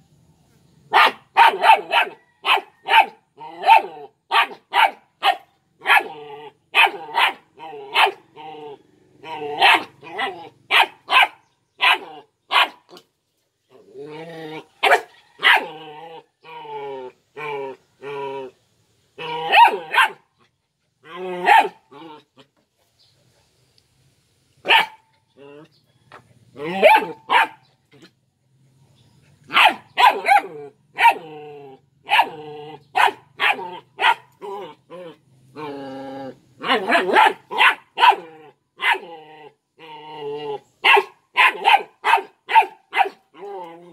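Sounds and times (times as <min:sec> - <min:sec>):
puppy barking and growling: 0:00.8 - 0:13.1, 0:13.7 - 0:22.6, 0:24.6 - 0:43.9.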